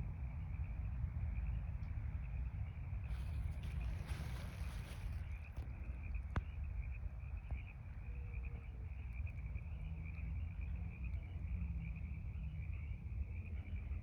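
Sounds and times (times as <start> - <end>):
low constant rumble: 0.0 - 14.0.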